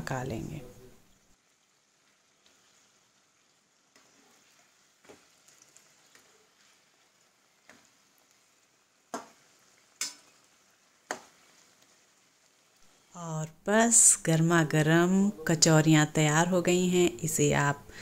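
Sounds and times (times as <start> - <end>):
food deep-frying in oil: 0.0 - 17.8.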